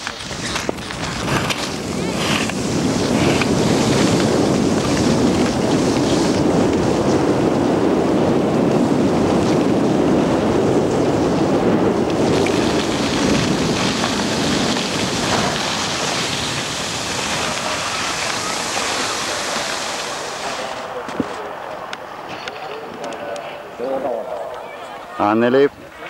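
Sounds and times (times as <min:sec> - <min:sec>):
wind buffeting microphone: 0:00.0 - 0:24.8.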